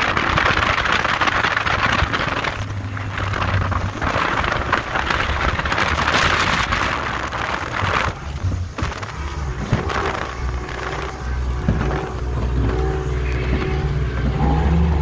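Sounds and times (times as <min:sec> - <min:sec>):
outboard motor humming: 0:00.0 - 0:15.0
water rushing from boat wake: 0:00.0 - 0:15.0
wind buffeting microphone: 0:00.0 - 0:15.0.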